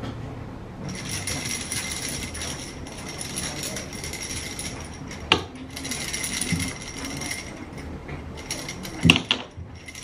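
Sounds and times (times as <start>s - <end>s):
baby rattle clinking: 0.9s - 10.0s.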